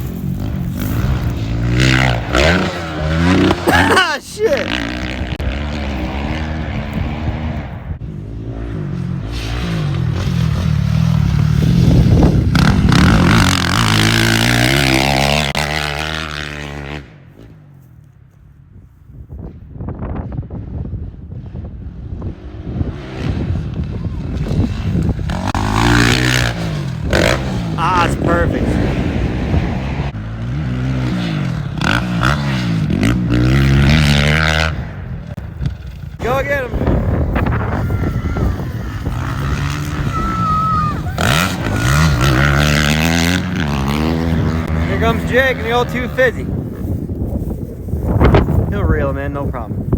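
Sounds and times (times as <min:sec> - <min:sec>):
dirt bike engine revving: 0:00.0 - 0:17.7, 0:22.0 - 0:47.3.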